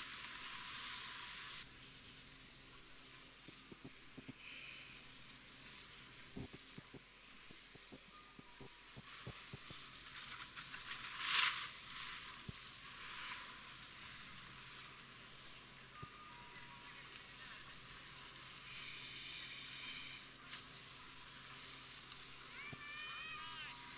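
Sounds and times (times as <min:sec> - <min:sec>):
steady high hiss: 0:00.0 - 0:23.9.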